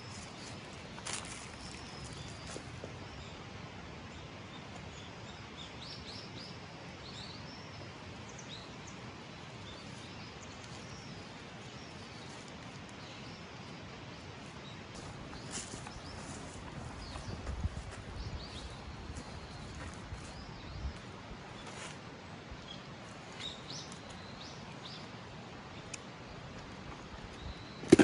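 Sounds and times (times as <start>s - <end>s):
small birds chirping: 0.0s - 3.4s, 4.2s - 21.9s, 22.6s - 28.0s
steady outdoor hiss: 0.0s - 28.0s.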